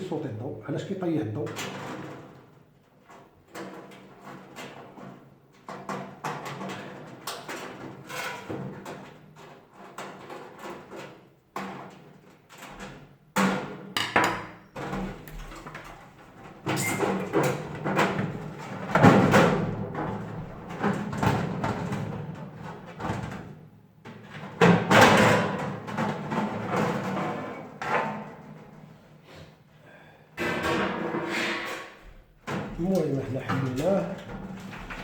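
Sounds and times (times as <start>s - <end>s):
metal panels and tools clattering: 1.5s - 28.9s, 30.4s - 35.0s.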